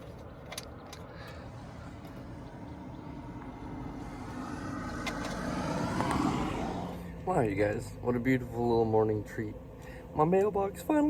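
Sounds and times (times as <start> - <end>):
road noise: 0.0 - 11.0
vehicle engine approaching: 0.0 - 11.0.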